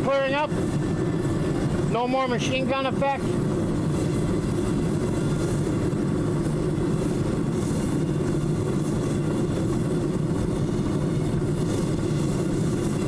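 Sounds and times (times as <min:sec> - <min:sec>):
furnace roaring: 0:00.0 - 0:13.0.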